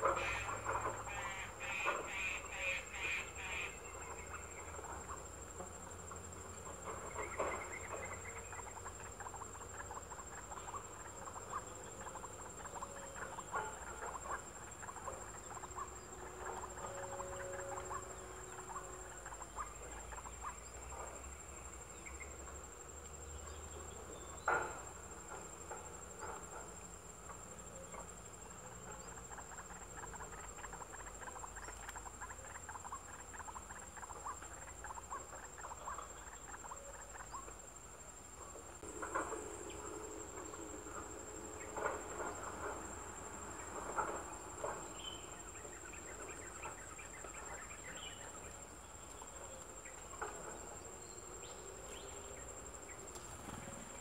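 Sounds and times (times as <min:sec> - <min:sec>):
small ticks and soft chirps: 0:00.0 - 0:54.0.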